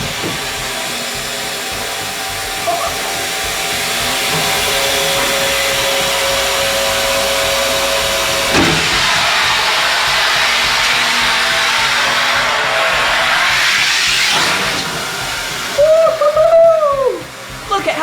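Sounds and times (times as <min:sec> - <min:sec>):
grinding machine whirring hiss: 0:00.0 - 0:18.0
steady hum: 0:00.0 - 0:18.0.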